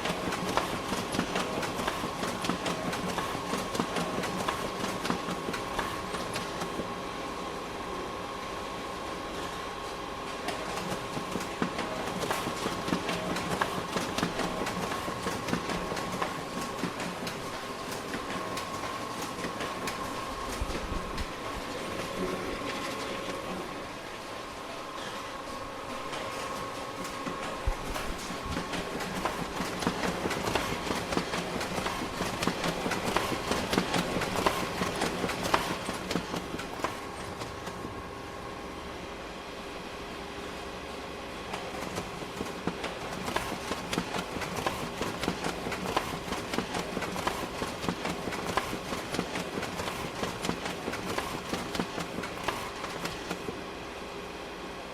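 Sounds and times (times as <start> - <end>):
printer mechanical hum: 0.0 - 54.9.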